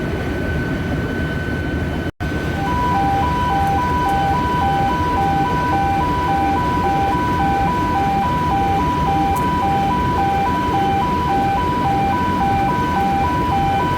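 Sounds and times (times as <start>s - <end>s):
two-tone alarm: 2.2s - 13.9s.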